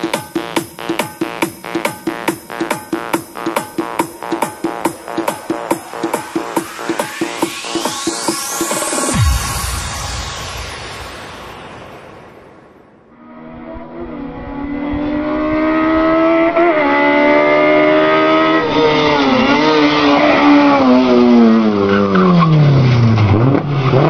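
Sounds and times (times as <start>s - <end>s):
car engine revving: 0.0s - 11.4s, 13.1s - 24.0s.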